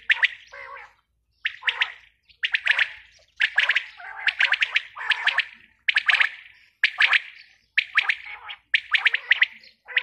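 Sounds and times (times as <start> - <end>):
quails calling: 0.0 - 10.0.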